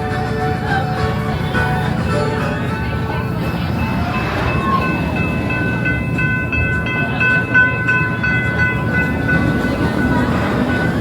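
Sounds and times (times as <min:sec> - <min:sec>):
steam train rumble: 0:00.0 - 0:11.0.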